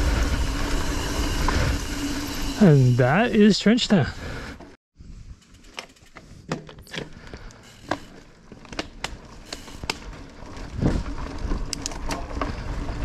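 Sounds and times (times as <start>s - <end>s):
bike tyres clicking and crackling: 0.0s - 13.0s.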